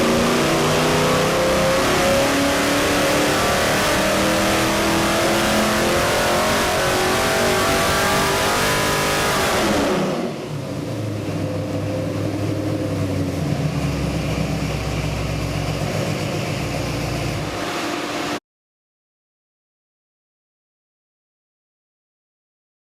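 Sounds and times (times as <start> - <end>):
engine revving then idling: 0.0 - 18.4.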